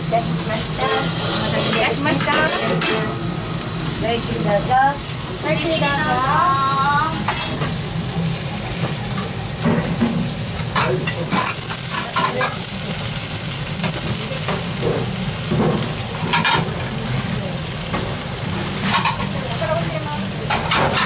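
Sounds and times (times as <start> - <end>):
meat sizzling on hot plate: 0.0 - 21.0.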